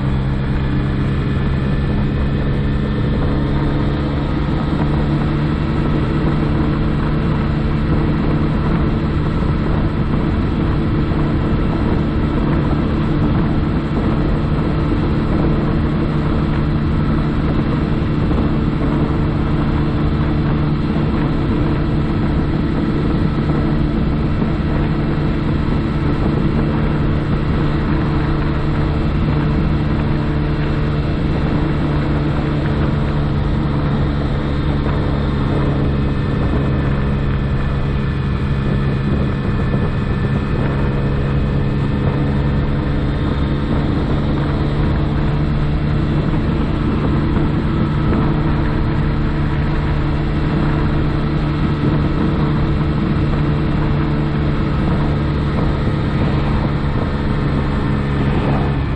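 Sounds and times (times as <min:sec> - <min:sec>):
scooter engine running: 0:00.0 - 0:58.9.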